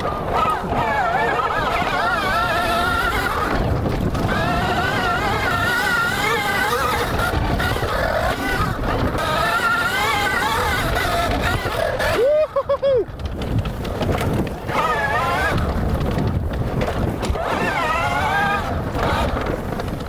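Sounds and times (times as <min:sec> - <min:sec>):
electric motor whine: 0:00.0 - 0:12.2, 0:14.6 - 0:15.8, 0:16.8 - 0:19.6
tyres rushing on dirt: 0:00.0 - 0:20.0.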